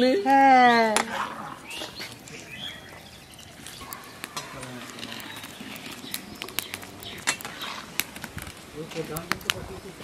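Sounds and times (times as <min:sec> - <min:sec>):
distant voices: 0:00.7 - 0:10.0.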